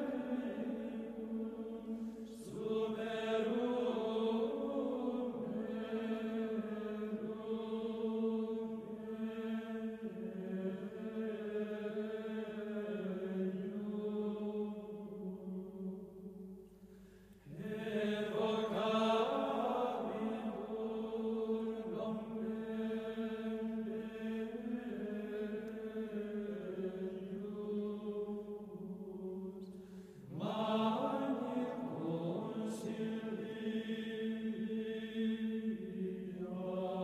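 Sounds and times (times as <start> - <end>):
chanted vocal music: 0.0 - 37.0.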